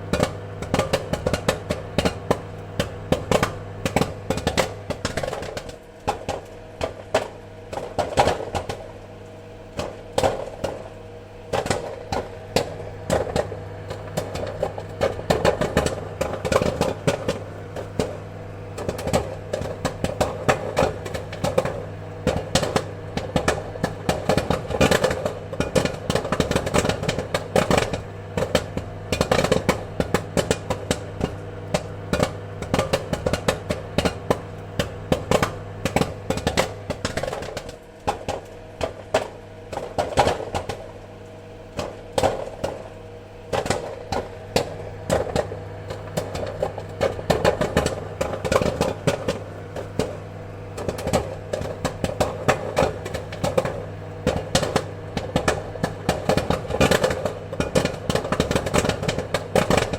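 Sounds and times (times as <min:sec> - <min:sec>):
popcorn popping: 0:00.0 - 0:59.9
steady machine hum: 0:00.0 - 0:59.9.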